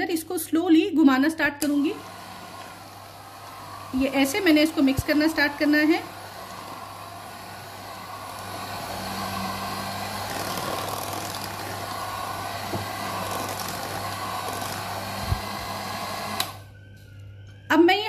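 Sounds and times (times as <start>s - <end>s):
electric hand mixer running: 1.6s - 16.7s.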